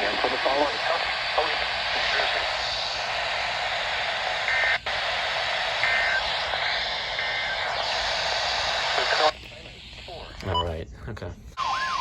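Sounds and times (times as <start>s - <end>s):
radio signal hiss: 0.0s - 10.8s.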